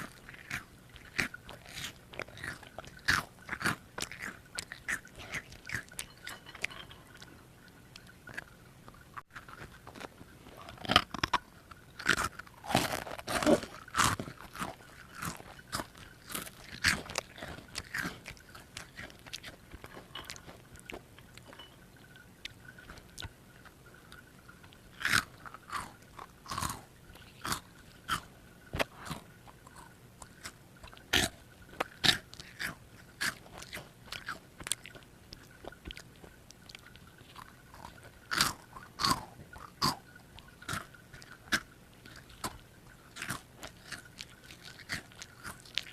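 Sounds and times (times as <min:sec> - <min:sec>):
child crunching a snack: 0:00.0 - 0:45.9.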